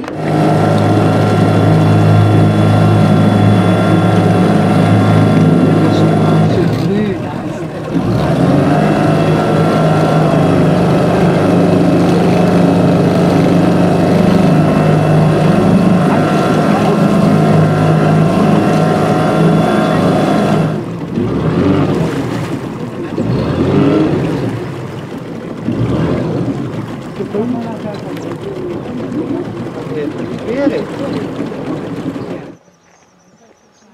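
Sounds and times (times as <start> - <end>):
motor engine running: 0.0 - 33.9.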